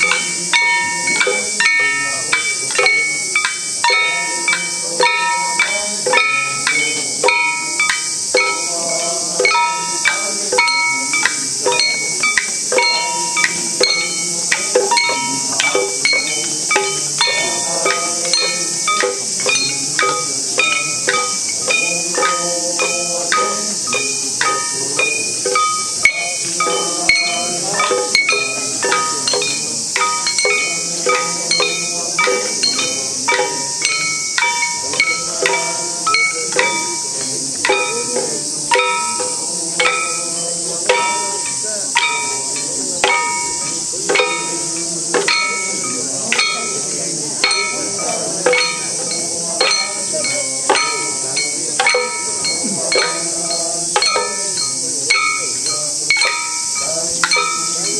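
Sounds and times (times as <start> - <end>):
cicadas hissing: 0.0 - 57.9
hand gongs struck in rhythm: 0.0 - 57.9
voices chanting: 0.0 - 57.9.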